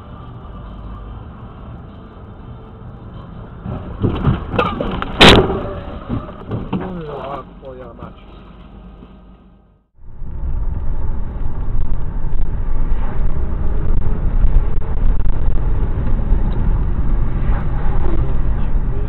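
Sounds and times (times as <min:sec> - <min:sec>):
vehicle road and engine rumble: 0:00.0 - 0:19.0.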